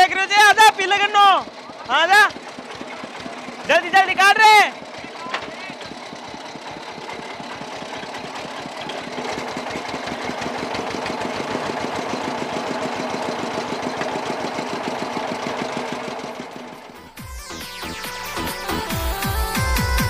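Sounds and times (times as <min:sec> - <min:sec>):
cane crusher rollers: 0:00.0 - 0:17.2
engine chugging: 0:00.0 - 0:20.0.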